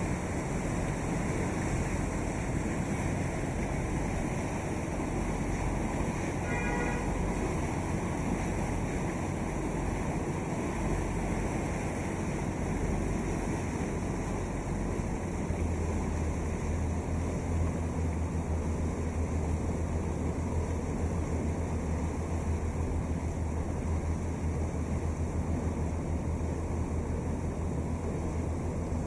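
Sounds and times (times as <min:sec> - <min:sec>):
boat engine running: 0:00.0 - 0:29.0
water washing: 0:00.0 - 0:29.0.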